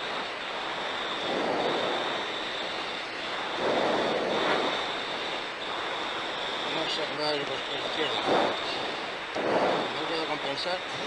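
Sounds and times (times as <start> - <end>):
rushing noise in jet cockpit: 0.0 - 11.0
thin high whine: 0.0 - 11.0.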